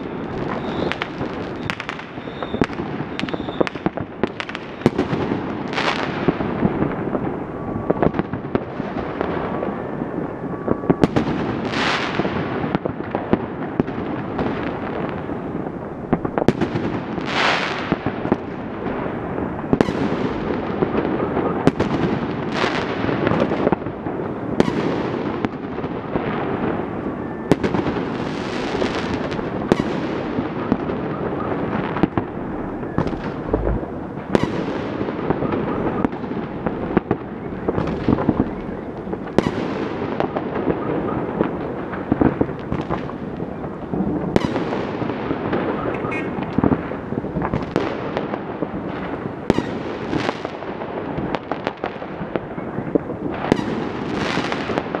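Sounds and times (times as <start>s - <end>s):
fireworks crackling: 0.0s - 55.0s
fireworks loud bangs echoing: 0.0s - 55.0s.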